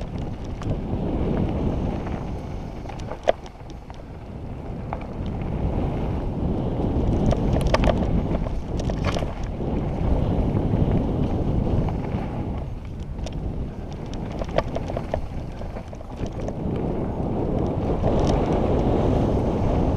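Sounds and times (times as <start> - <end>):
bike rattling and clicking: 0.0 - 19.9
wind rushing over microphone: 0.0 - 19.9.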